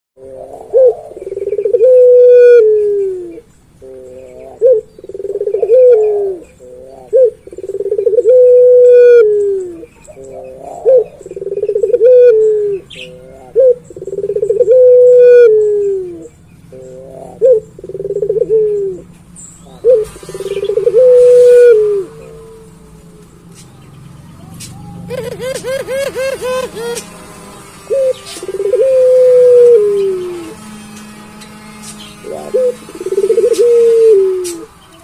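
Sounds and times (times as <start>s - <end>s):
dove cooing: 0.2s - 19.1s, 19.7s - 23.3s, 24.7s - 30.7s, 31.6s - 34.8s.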